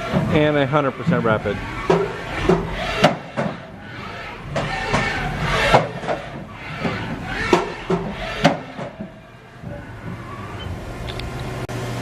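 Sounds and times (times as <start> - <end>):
sharp mechanical knocks: 0.0 - 11.4
machine axis drives whirring: 0.0 - 11.7.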